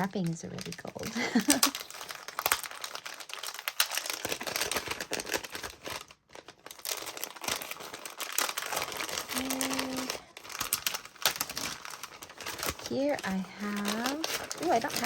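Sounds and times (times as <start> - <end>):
wrapping paper crinkling: 0.0 - 15.0.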